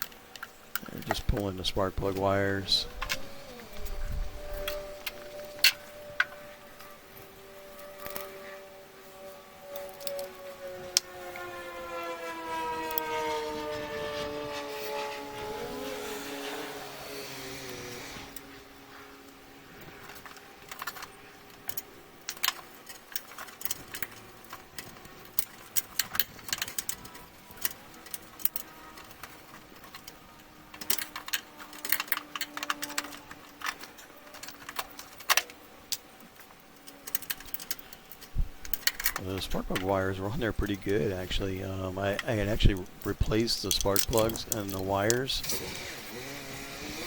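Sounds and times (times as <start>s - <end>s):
spark plug wires clicking and rattling: 0.0s - 47.0s.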